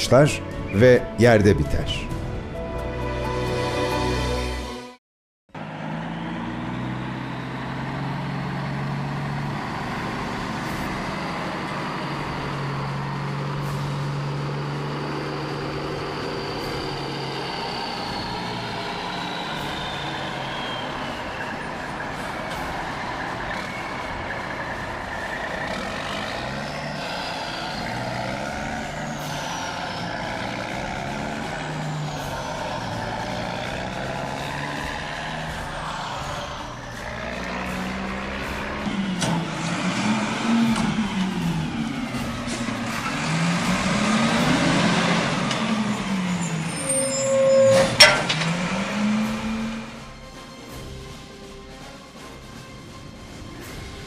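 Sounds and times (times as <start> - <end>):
truck diesel engine running: 5.5 - 54.0.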